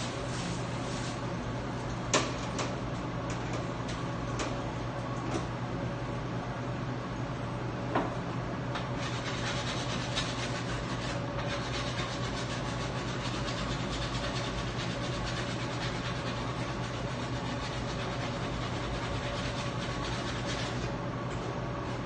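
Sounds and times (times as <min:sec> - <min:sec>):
oven and ventilation hum: 0:00.0 - 0:22.0.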